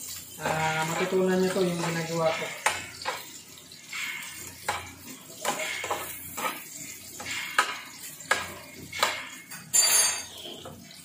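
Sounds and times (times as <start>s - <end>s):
food sizzling in oil: 0.0s - 11.0s
spoon scraping frying pan: 0.4s - 11.0s.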